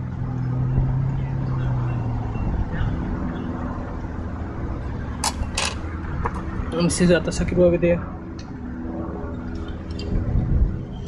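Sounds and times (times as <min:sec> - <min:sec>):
low traffic rumble: 0:00.0 - 0:11.0
passing vehicle engine hum: 0:00.0 - 0:11.0.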